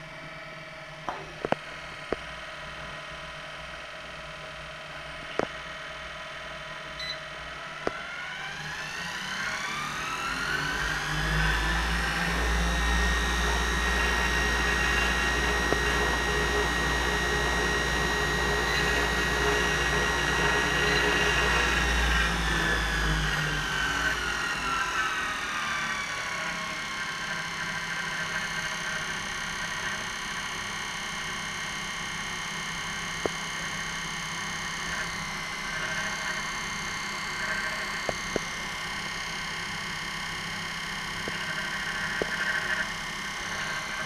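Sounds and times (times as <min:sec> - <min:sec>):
treadmill motor whining: 0:06.1 - 0:44.0.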